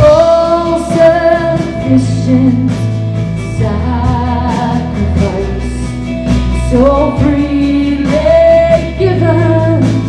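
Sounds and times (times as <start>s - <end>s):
steady bass line: 0.0s - 10.0s
worship band music with singing: 0.0s - 10.0s.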